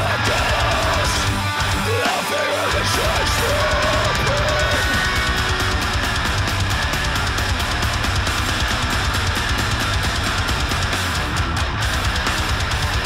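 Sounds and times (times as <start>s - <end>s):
driving drum beat: 0.0s - 13.0s
heavy rock music: 0.0s - 13.0s.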